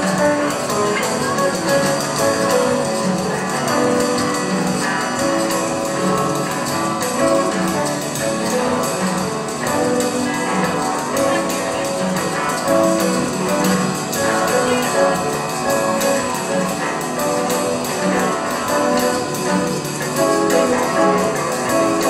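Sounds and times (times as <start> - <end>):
electric guitar: 0.0 - 22.0
maracas shaking: 0.0 - 22.0.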